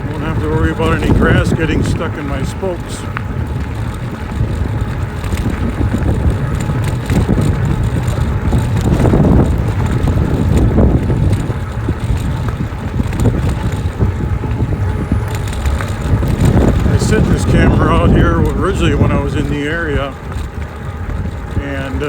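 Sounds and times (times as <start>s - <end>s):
tyres rumbling on road: 0.0s - 22.0s
wind buffeting microphone: 0.0s - 22.0s.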